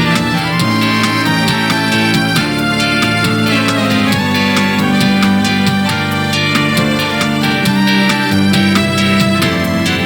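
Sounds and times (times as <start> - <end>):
polyphonic ringtone music: 0.0 - 10.0.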